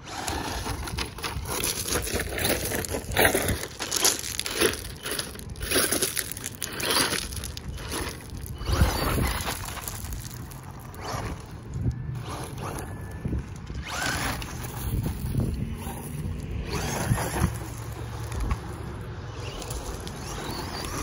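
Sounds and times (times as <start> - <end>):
rc buggy tyres crunching gravel: 0.0 - 21.0.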